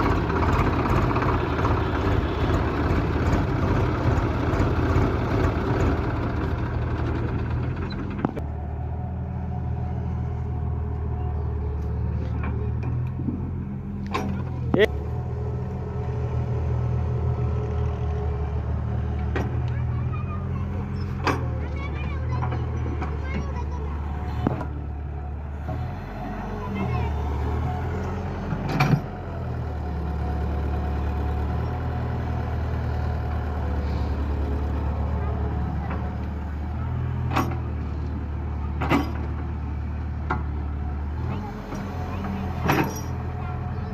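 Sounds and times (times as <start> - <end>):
heavy vehicle engine running: 0.0 - 43.9.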